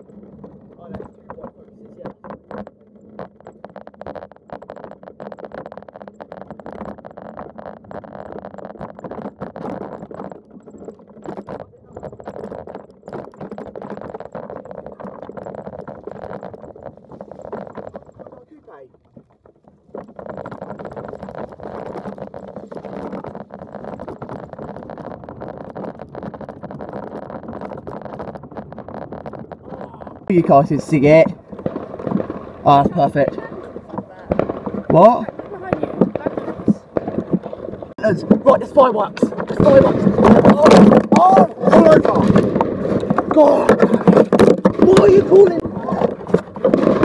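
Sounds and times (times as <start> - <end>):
body rattling and knocking: 0.0 - 47.0.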